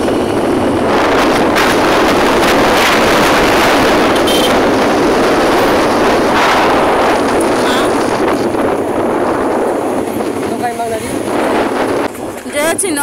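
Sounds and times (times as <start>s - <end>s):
road noise in moving vehicle: 0.0s - 13.0s
wind rushing: 0.0s - 13.0s.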